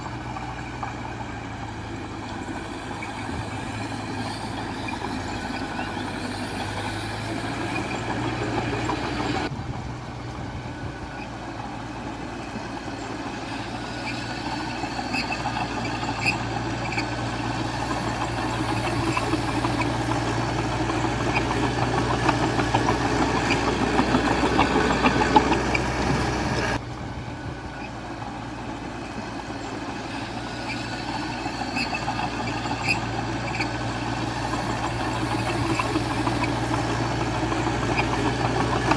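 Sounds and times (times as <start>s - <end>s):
bulldozer diesel engine running: 0.0s - 38.9s
tracks clanking: 0.0s - 38.9s.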